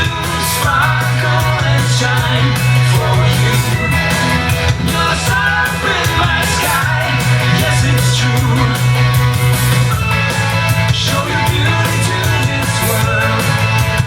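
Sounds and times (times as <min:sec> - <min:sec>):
heavy bass line: 0:00.0 - 0:14.0
rock song with singer: 0:00.0 - 0:14.0.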